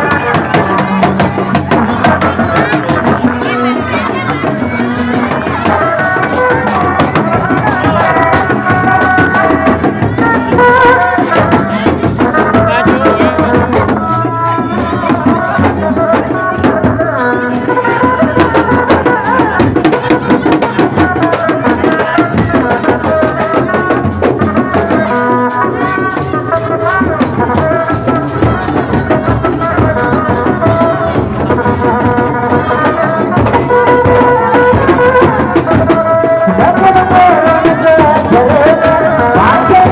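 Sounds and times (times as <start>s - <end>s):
hand drums: 0.0s - 39.9s.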